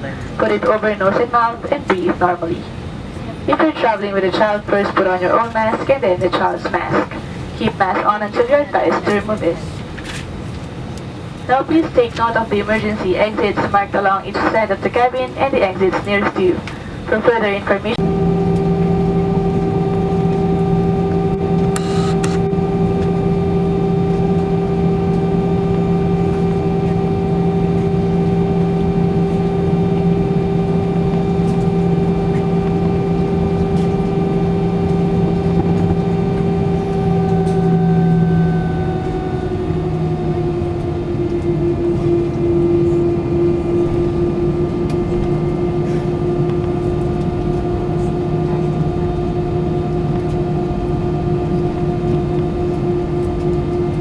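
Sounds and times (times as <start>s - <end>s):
aircraft cabin drone: 0.0s - 54.0s.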